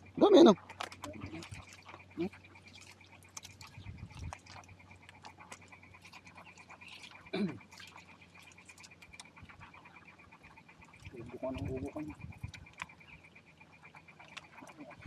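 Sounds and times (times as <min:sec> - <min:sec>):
high-pitched pulsing animal chorus: 0:00.0 - 0:15.0.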